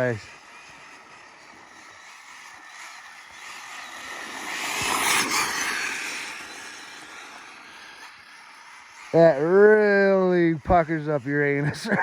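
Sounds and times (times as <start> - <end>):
rc car motor whine: 0.0 - 12.0.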